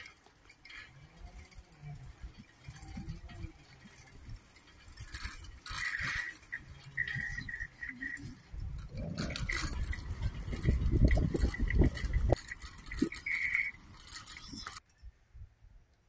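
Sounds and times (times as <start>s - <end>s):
loose metal parts rattling: 0.0s - 14.9s.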